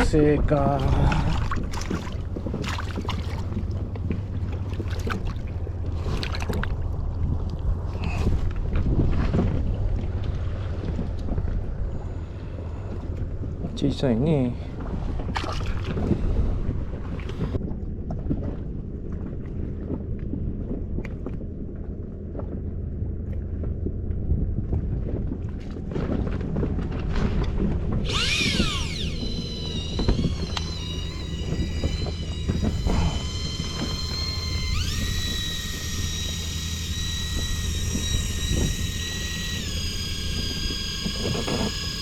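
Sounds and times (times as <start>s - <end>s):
wind rumbling on microphone: 0.0s - 42.0s.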